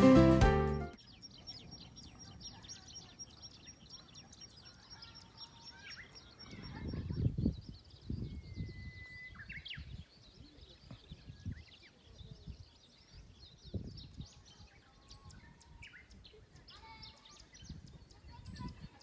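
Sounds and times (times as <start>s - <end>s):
small birds chirping: 0.8s - 19.0s.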